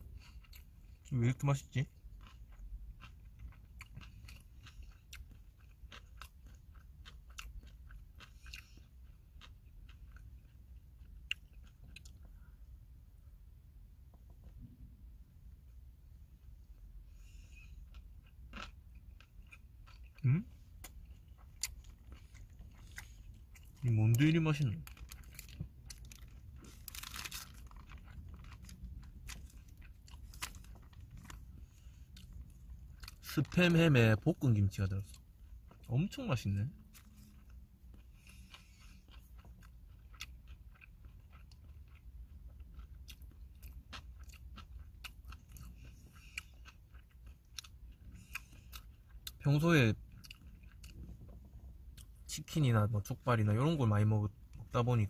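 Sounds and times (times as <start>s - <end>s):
person chewing food: 0.0s - 1.1s, 1.8s - 36.2s, 36.8s - 52.4s
soft crunches and mouth noises: 0.0s - 52.7s.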